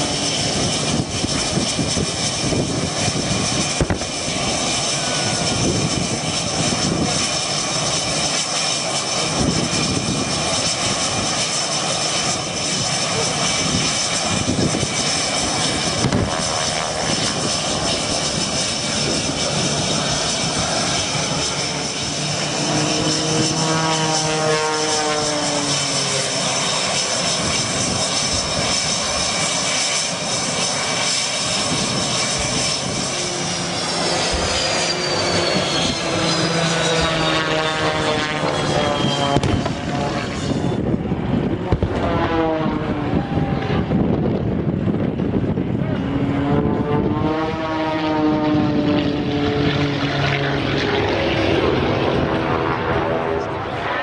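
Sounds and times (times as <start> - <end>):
high-pitched whine: 0.0 - 43.9
propeller plane passing low: 0.0 - 54.0.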